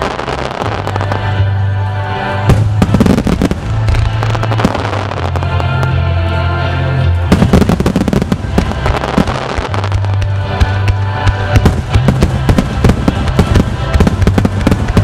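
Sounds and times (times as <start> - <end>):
fireworks bursting: 0.0 - 1.4, 2.4 - 6.1, 7.2 - 15.0
music playing: 0.0 - 15.0.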